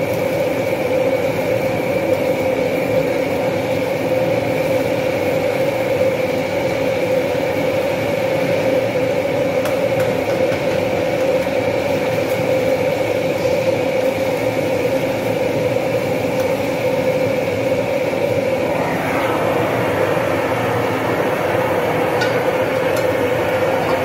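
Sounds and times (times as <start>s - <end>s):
gas burner roaring: 0.0s - 24.0s.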